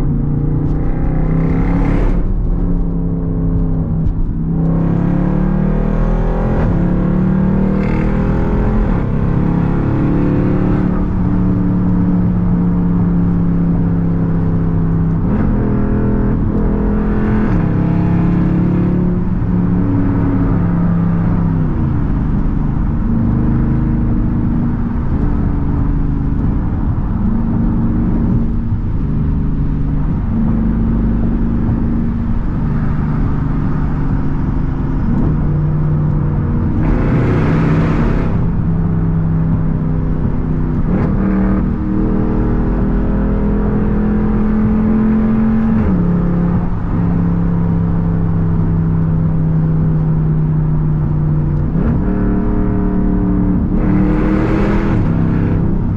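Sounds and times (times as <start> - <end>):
car exhaust drone from inside cabin: 0.0 - 55.9.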